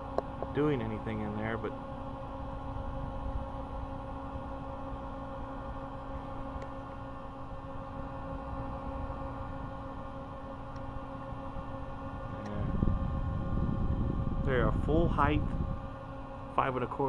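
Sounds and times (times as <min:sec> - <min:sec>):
hard drive electrical hum: 0:00.0 - 0:17.0.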